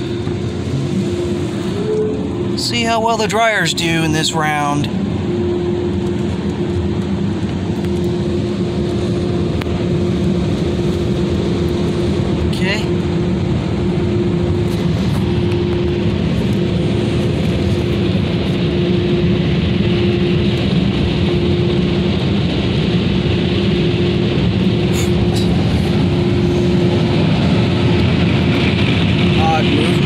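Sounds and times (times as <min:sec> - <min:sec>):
car wash dryer blowers: 0:00.0 - 0:30.0.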